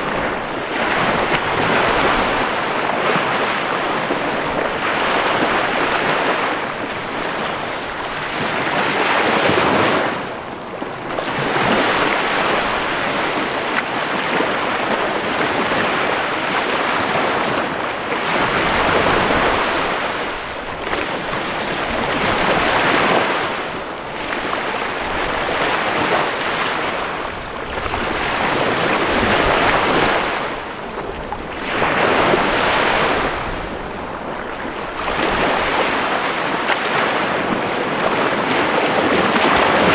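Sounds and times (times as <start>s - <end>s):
small waves breaking on a beach: 0.0s - 39.9s.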